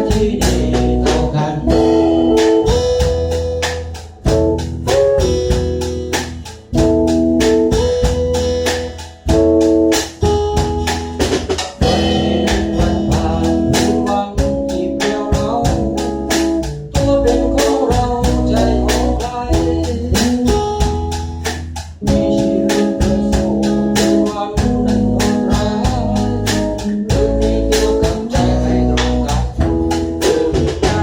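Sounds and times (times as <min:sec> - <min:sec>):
bass: 0:00.0 - 0:31.0
drum kit steady beat: 0:00.0 - 0:31.0
guitar: 0:00.0 - 0:31.0
organ-like keyboard: 0:00.0 - 0:31.0.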